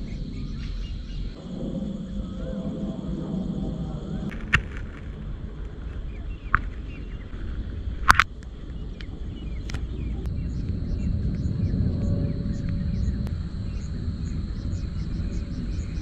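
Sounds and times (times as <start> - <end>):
crickets chirping: 0.0 - 16.0
insects droning: 0.0 - 16.0
low rumble: 0.0 - 16.0.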